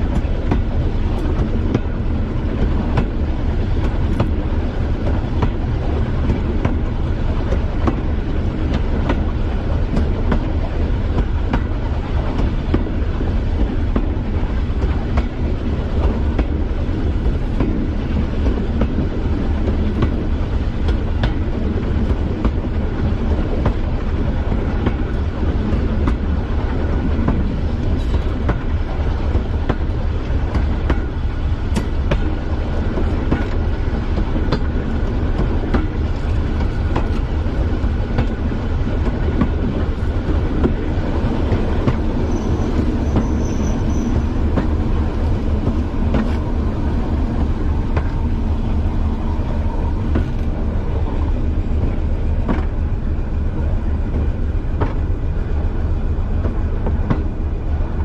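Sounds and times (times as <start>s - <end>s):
diesel train engine drone: 0.0s - 58.0s
train wheels clicking over rail joints: 0.0s - 58.0s.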